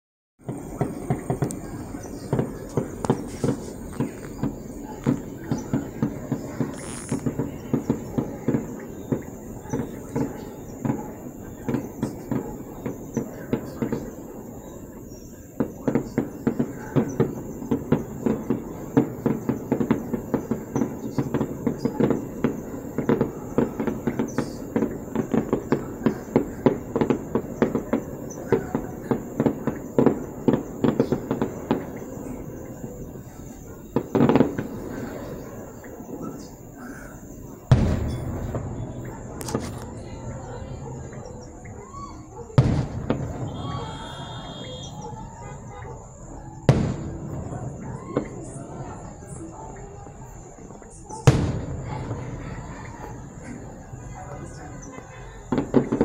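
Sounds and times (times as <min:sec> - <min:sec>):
fireworks crackling and popping: 0:00.4 - 0:56.0.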